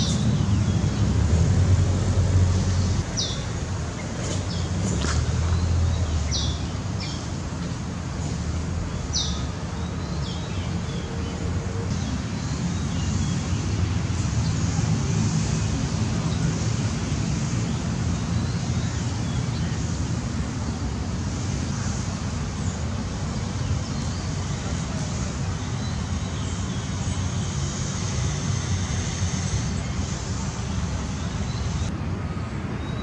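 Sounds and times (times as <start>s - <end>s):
distant traffic rumble: 0.0s - 33.0s.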